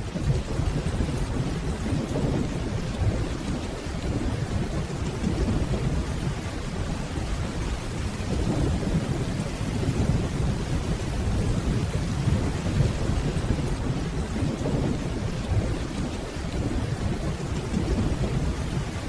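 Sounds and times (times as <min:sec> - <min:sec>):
distant thunder rumbling: 0:00.0 - 0:19.0
heavy rainfall: 0:00.0 - 0:19.0.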